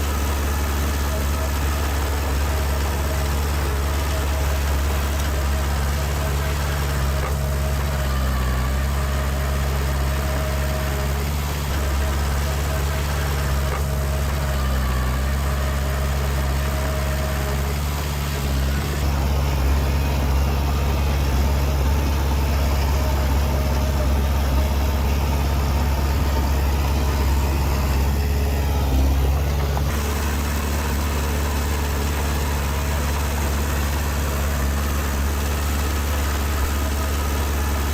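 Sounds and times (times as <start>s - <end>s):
bulldozer diesel engine droning: 0.0s - 37.9s.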